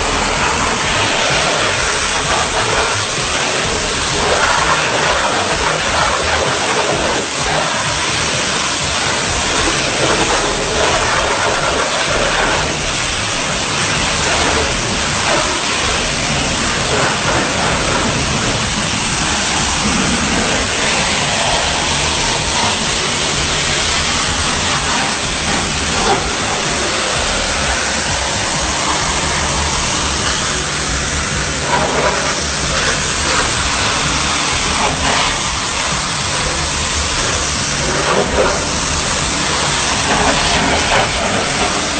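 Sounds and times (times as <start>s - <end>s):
high-pressure water spray hissing: 0.0s - 41.9s.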